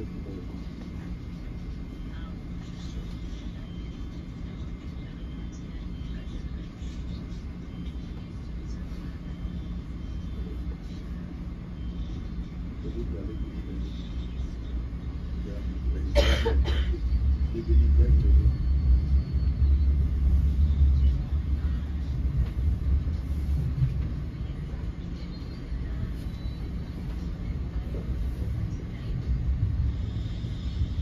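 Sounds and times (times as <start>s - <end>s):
train coach rumbling on track: 0.0s - 31.0s.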